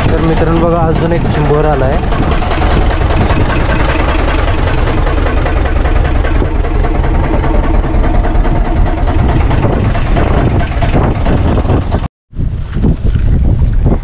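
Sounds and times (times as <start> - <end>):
boat engine idling: 0.0 - 12.1.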